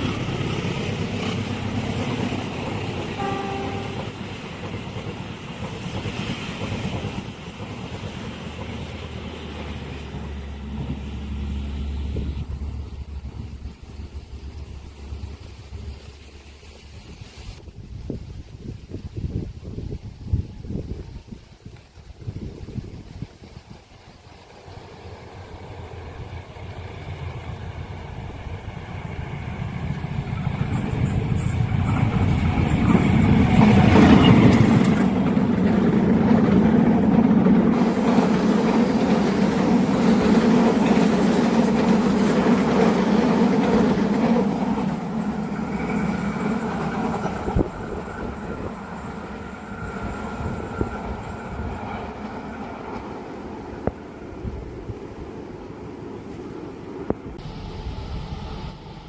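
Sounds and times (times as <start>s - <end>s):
train passing at speed: 0.0s - 17.8s, 22.2s - 59.0s.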